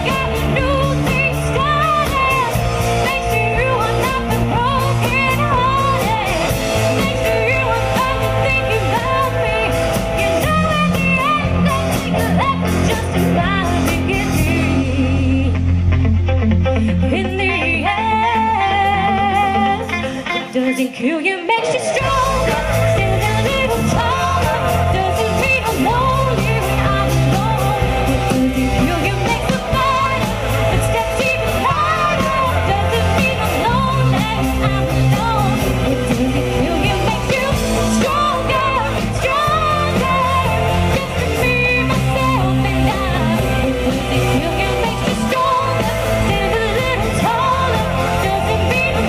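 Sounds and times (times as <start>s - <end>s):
person singing: 0.0s - 15.9s, 16.6s - 49.0s
pop-rock band playing: 0.0s - 49.0s.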